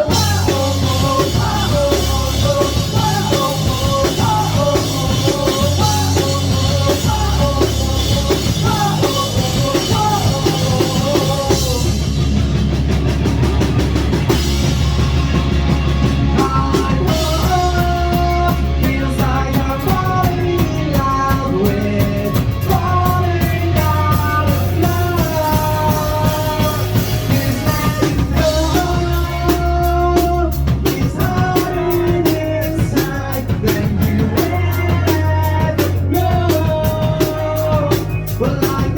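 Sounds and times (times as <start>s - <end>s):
person singing: 0.0s - 12.2s, 16.0s - 38.9s
live rock band playing: 0.0s - 38.9s.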